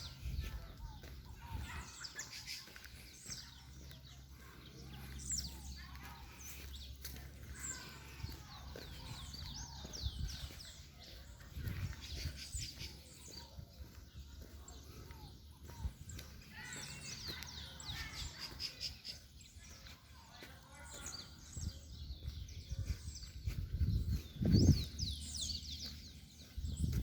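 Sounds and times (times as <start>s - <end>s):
birds chirping and calling: 0.0s - 27.0s.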